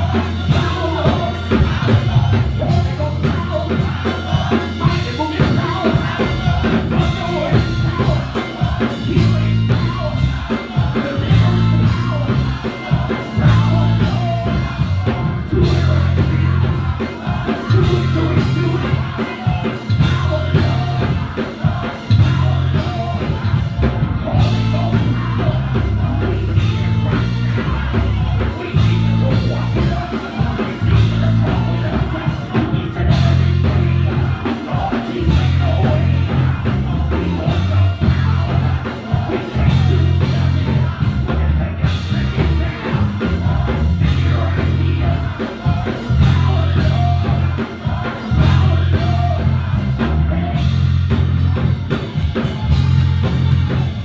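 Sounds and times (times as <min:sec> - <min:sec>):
people singing: 0:00.0 - 0:54.0
worship band with drums and bass: 0:00.0 - 0:54.0.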